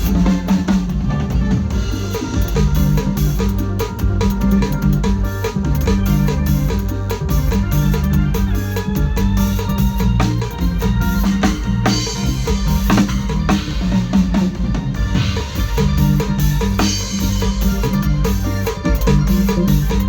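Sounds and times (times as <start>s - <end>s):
bass line: 0.0s - 20.0s
drum kit: 0.0s - 20.0s
keyboard tones: 0.0s - 20.0s.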